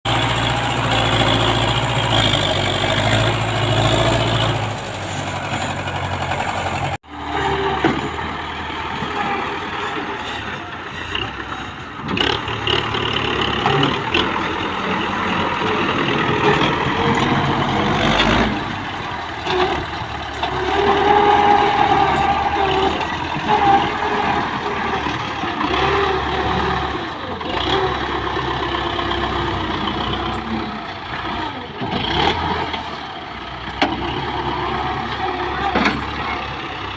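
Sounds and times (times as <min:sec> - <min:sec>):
tractor diesel engine under load: 0:00.0 - 0:36.9.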